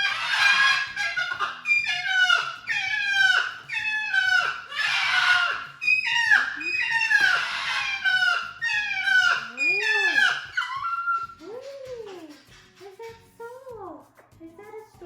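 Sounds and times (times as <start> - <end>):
cockatoo calling: 0.0 - 12.3.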